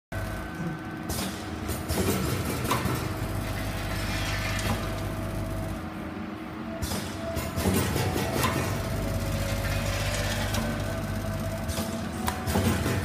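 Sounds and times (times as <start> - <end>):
machine motor hum: 0.2 - 13.0.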